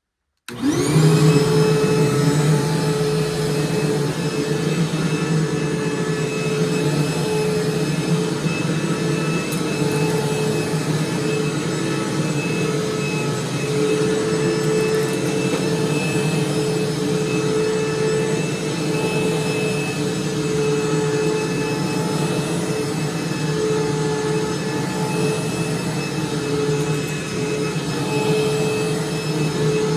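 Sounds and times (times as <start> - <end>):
vacuum cleaner running: 0.5 - 29.9.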